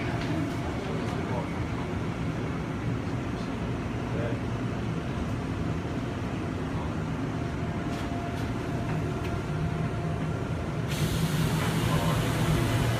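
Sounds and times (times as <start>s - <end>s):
electric train rumble: 0.0s - 12.9s.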